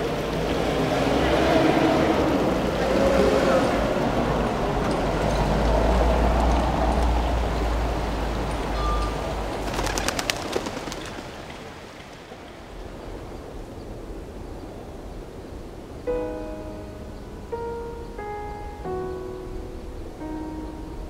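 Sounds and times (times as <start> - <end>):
city ambience: 0.0 - 21.0.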